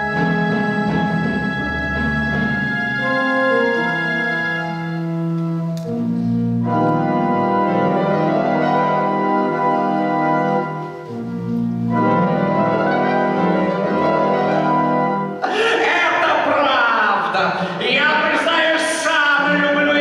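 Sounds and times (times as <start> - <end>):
organ playing sustained chords: 0.0 - 16.6.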